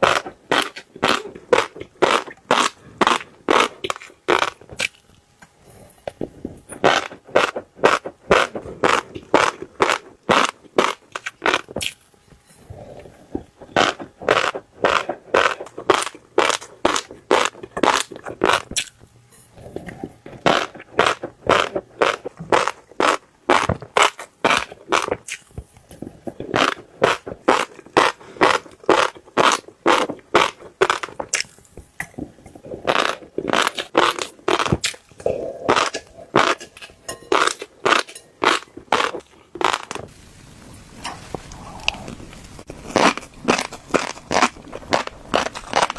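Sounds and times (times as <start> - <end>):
fish roe crunching and popping: 0.0 - 40.1, 41.1 - 45.9.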